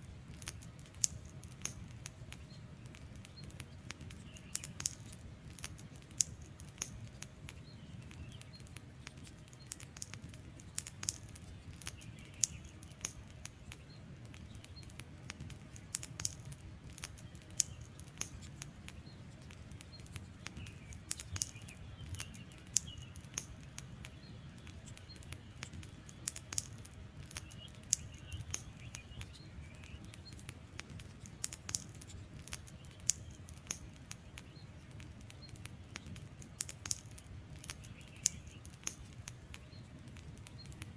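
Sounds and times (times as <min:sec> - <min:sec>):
faint chirping calls: 0:00.0 - 0:40.9
low rumble of flames: 0:00.0 - 0:40.9
wood fire crackling and popping: 0:00.0 - 0:40.9.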